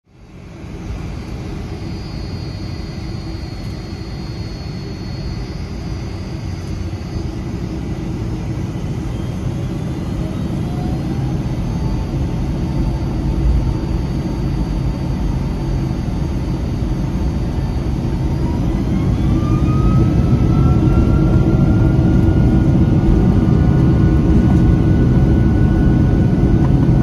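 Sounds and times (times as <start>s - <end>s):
faint high engine whine: 0.1s - 27.0s
jet engines and wheels rumbling: 0.1s - 27.0s.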